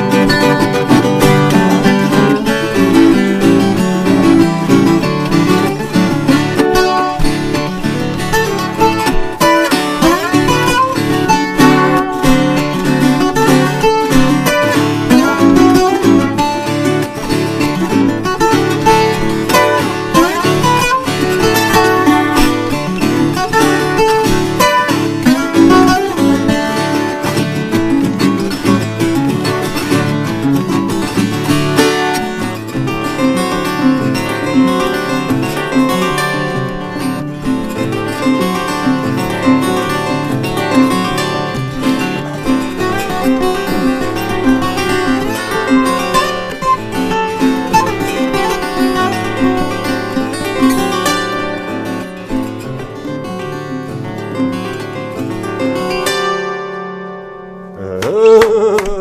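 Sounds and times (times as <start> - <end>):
guitar duet picked notes: 0.0 - 59.0.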